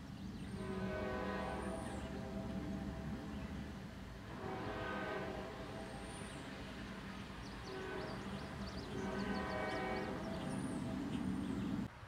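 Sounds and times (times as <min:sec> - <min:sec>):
train rumbling: 0:00.0 - 0:12.0
locomotive air horn: 0:00.5 - 0:11.0.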